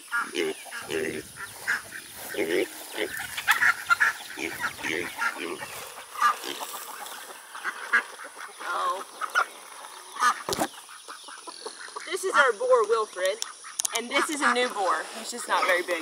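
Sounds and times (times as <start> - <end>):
ducks quacking: 0.0 - 12.8, 13.4 - 16.0
poultry calls: 0.0 - 16.0.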